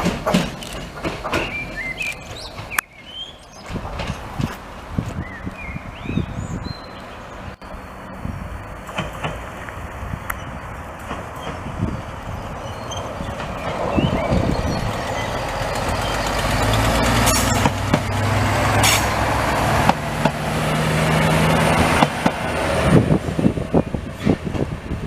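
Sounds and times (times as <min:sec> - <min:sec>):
wheels clicking over rail joints: 0:00.0 - 0:05.2, 0:08.8 - 0:25.0
diesel railcar engine drone: 0:00.0 - 0:25.0.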